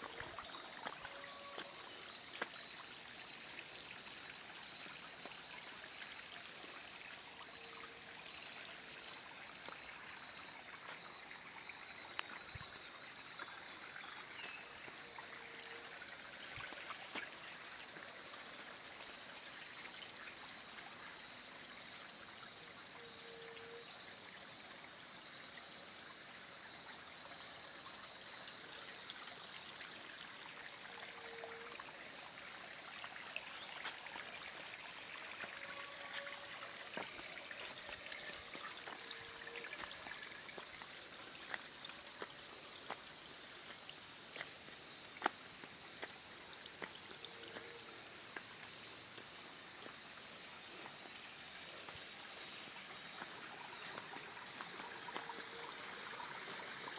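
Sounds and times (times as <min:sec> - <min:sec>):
stream trickling over stones: 0:00.0 - 0:56.9.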